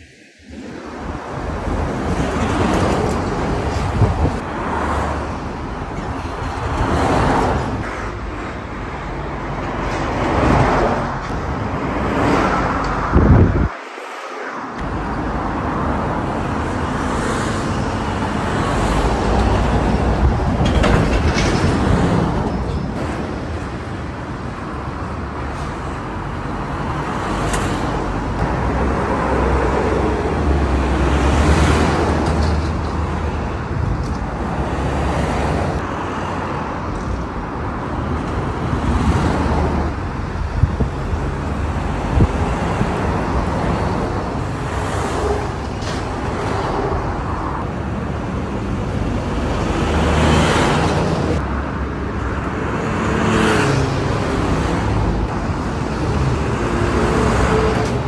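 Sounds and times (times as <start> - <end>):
heavy road traffic passing: 0.0 - 58.0.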